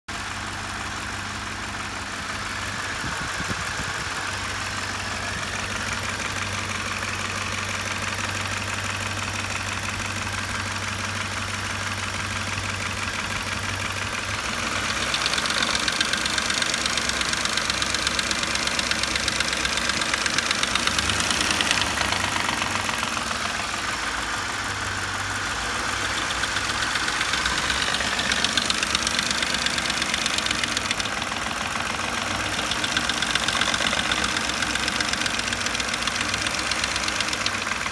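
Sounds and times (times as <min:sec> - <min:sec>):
car engine running: 0:00.2 - 0:37.9
fast ticking engine knock: 0:02.1 - 0:37.9.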